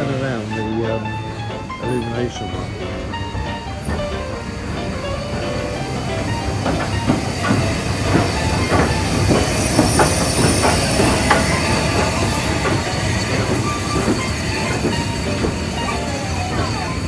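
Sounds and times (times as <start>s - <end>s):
train wheels clicking over rail joints: 0.0s - 17.0s
wheels squealing on rails: 0.0s - 17.0s.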